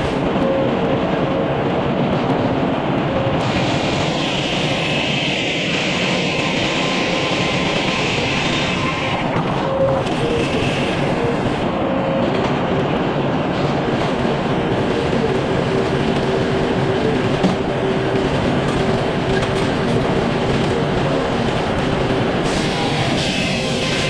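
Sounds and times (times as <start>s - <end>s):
machine hum: 3.0s - 24.0s.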